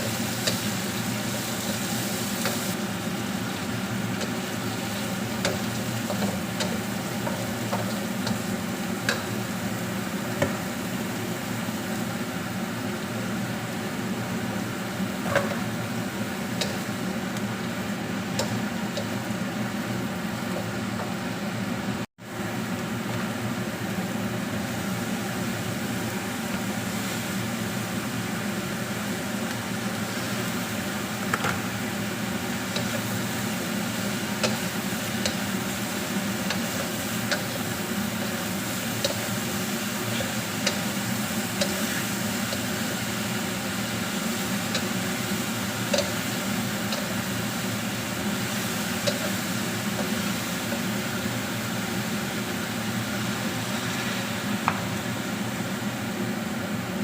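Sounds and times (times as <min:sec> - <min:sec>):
mushrooms frying in a pan: 0:00.0 - 0:57.0.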